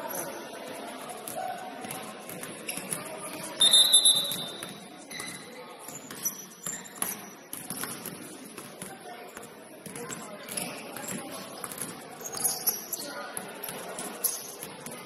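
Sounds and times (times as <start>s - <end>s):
voices echoing in gym: 0.0s - 15.0s.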